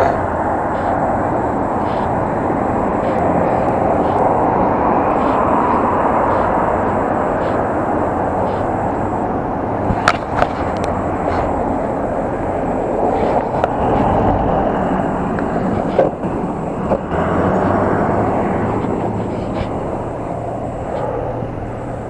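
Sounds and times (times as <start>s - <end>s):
sharp clicks: 0.0s - 21.1s
bicycle ride rumble: 0.0s - 22.0s
wind on microphone: 0.0s - 22.0s.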